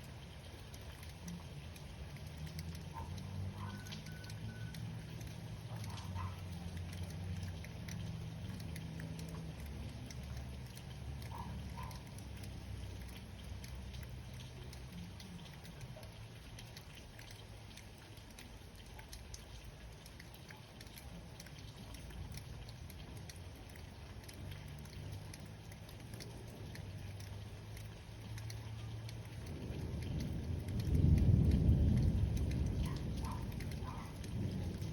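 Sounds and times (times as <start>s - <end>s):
drops ticking on surfaces: 0.0s - 34.9s
light rain pattering: 0.0s - 34.9s
low steady rumble: 0.0s - 34.9s.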